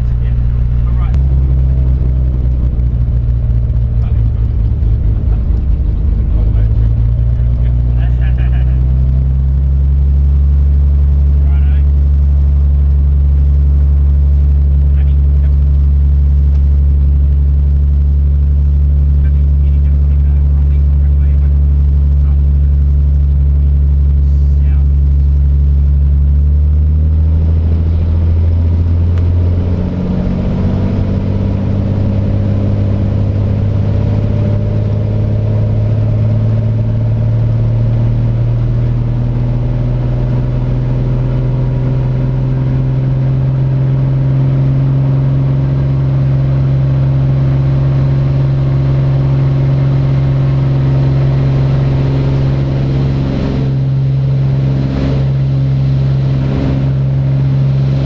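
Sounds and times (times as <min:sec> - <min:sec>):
propeller aircraft engine at full power: 0:00.0 - 0:58.0.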